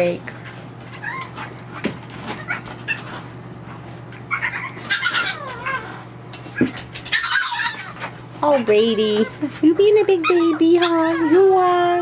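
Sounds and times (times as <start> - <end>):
puppy whining: 0.5 - 12.0.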